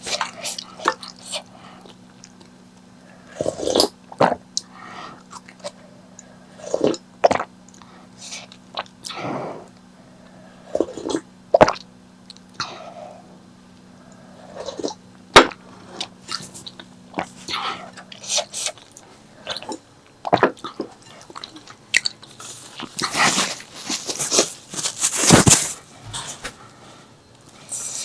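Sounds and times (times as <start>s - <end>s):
person chewing with wet smacks: 0.0s - 9.2s, 10.2s - 12.7s, 14.1s - 26.6s.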